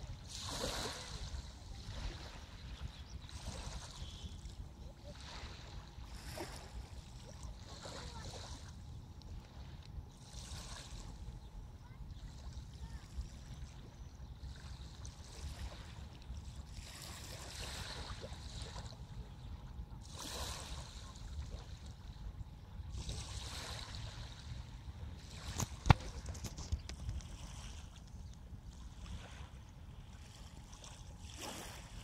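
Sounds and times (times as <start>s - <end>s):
water sloshing and splashing: 0.0s - 11.4s, 12.2s - 32.0s.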